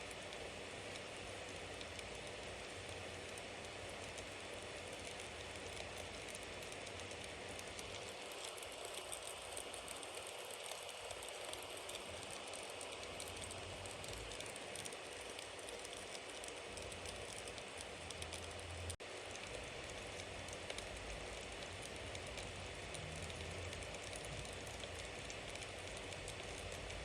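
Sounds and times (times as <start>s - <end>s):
bonfire flames hissing: 0.0s - 27.0s
wood crackling and popping: 0.3s - 27.0s.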